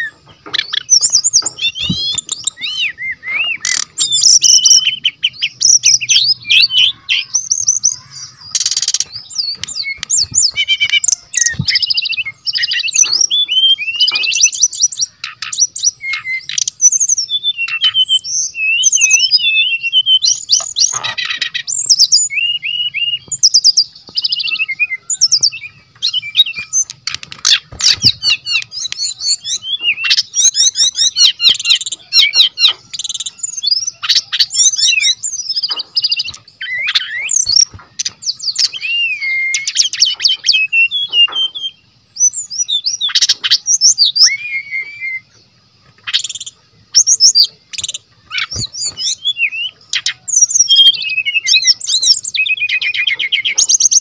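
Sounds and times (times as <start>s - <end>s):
bird singing whistles and trills: 0.0s - 54.0s.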